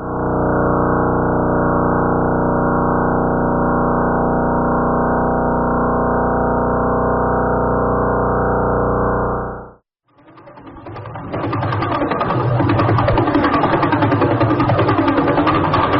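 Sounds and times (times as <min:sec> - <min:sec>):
steady dense drone of held tones: 0:00.0 - 0:15.9.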